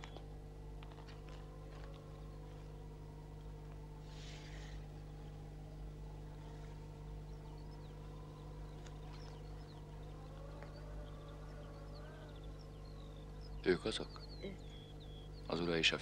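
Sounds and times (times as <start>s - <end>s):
steady low hum: 0.0s - 16.0s
faint high bird chirps: 1.0s - 16.0s.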